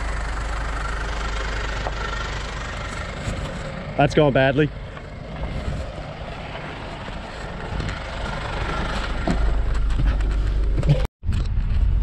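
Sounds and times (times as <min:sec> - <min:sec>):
deep rumble inside truck cab: 0:00.0 - 0:12.0
wind and road noise: 0:00.0 - 0:12.0.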